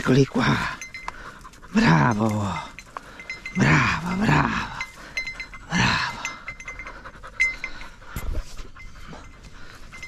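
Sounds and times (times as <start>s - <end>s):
rustling through undergrowth: 0.0s - 10.0s
small collar bell clinking: 0.0s - 10.0s.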